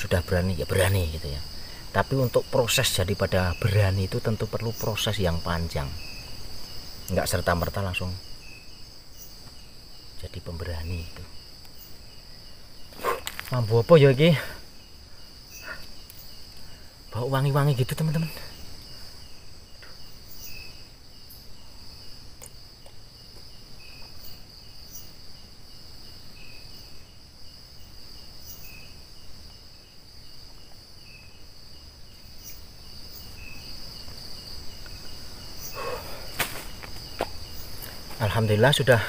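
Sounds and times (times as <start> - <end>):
insect chorus droning: 0.0 - 39.0.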